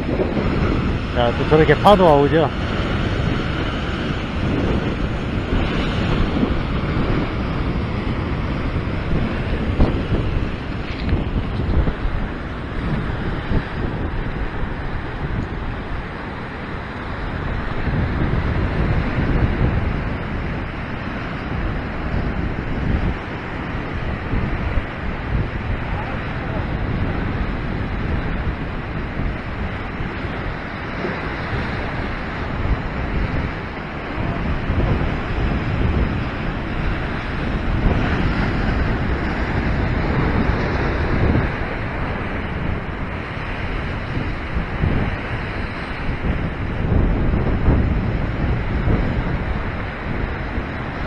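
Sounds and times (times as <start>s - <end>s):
ocean surf breaking on rocks: 0.0s - 51.0s
wind buffeting microphone: 0.0s - 51.0s.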